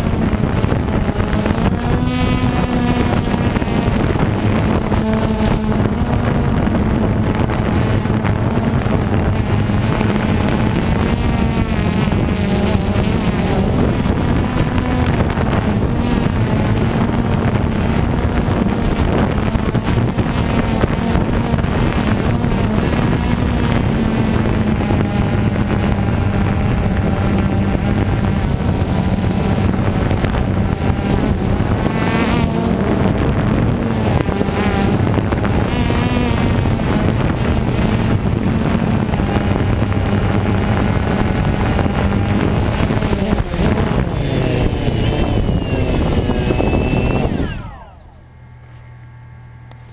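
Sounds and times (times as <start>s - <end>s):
drone motors and propellers buzzing: 0.0s - 49.9s
wind rushing over microphone: 0.0s - 49.9s.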